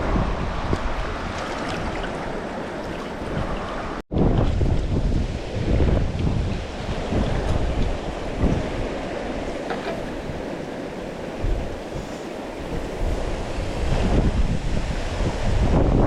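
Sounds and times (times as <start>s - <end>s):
rushing river water: 0.0s - 16.0s
wind buffeting microphone: 0.0s - 16.0s.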